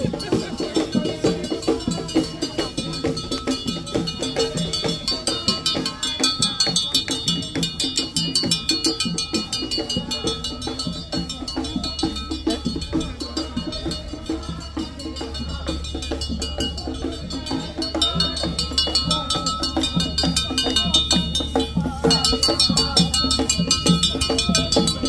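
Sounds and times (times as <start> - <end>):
drums: 0.0 - 25.0
ringing metallic strikes: 0.0 - 25.0.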